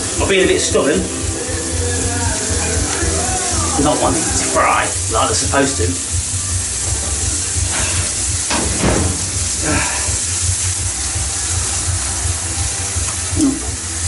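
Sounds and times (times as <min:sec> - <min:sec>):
fries sizzling in oil: 0:00.0 - 0:14.0.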